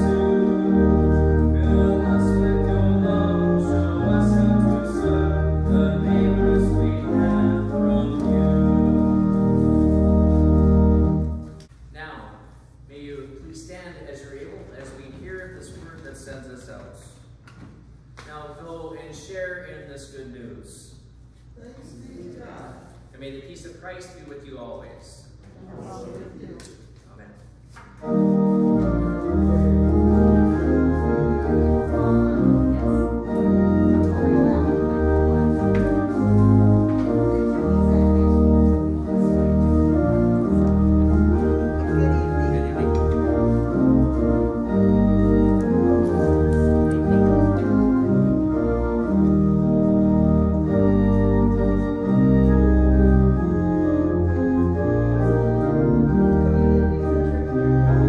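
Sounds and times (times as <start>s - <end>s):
organ music: 0.0s - 17.4s, 27.0s - 58.0s.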